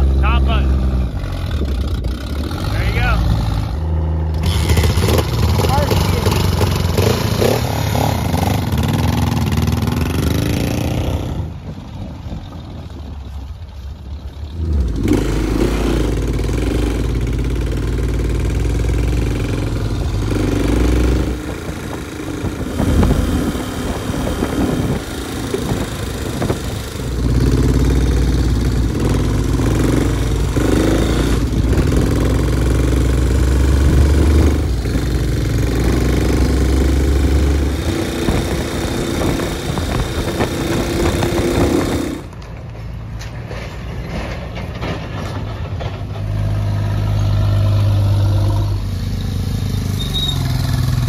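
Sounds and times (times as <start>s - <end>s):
motorcycle engine revving: 0.0s - 11.6s, 14.5s - 42.4s, 45.6s - 51.0s.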